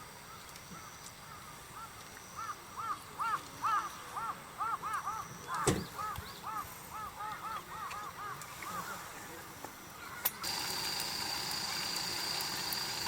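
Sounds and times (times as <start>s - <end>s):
flock of birds calling: 0.3s - 13.0s.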